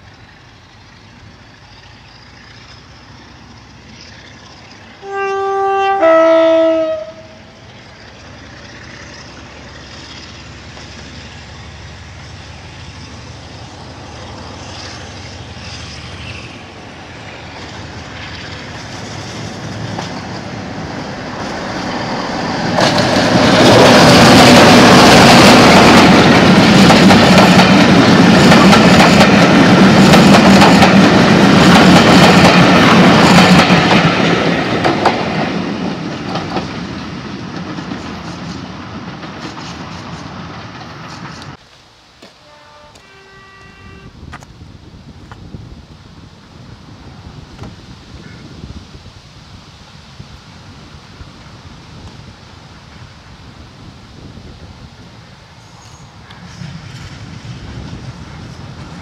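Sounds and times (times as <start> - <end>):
train wheels clicking on rail joints: 0.0 - 5.4, 6.7 - 45.6, 55.5 - 59.0
diesel locomotive engine: 0.0 - 59.0.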